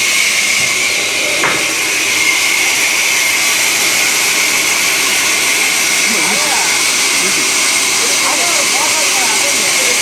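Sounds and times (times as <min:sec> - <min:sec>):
sawmill saw hissing: 0:00.0 - 0:10.0.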